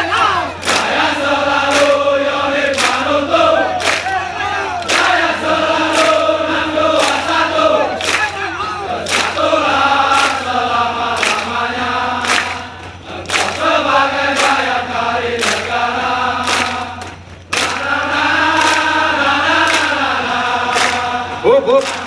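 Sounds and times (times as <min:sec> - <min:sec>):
sharp rhythmic beat: 0:00.0 - 0:22.0
soldiers chanting in unison: 0:00.0 - 0:22.0.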